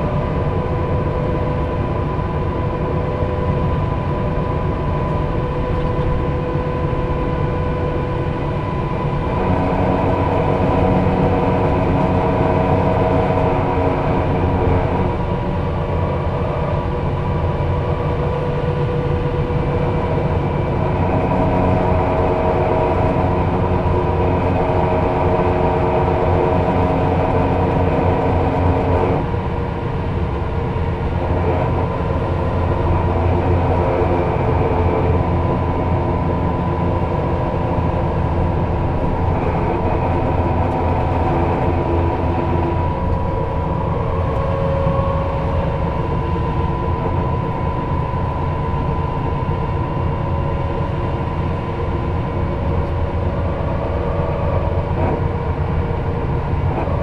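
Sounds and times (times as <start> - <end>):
bus engine running: 0.0 - 57.0
road noise drone: 0.0 - 57.0.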